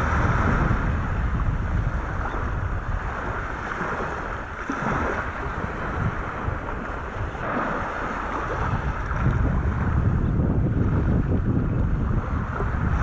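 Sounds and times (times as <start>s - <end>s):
rush of open water: 0.0s - 13.0s
wind buffeting microphone: 0.0s - 13.0s.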